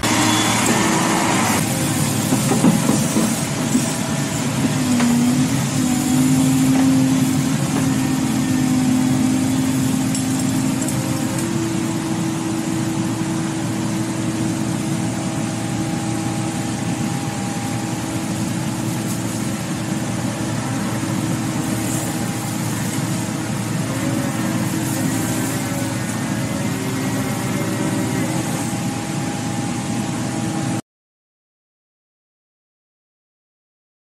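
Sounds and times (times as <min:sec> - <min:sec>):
excavator diesel engine droning: 0:00.0 - 0:30.8.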